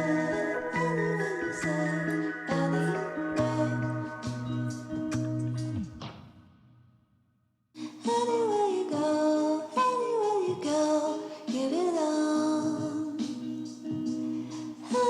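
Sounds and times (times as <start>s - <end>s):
woman singing over guitar: 0.0s - 5.6s, 7.8s - 15.0s.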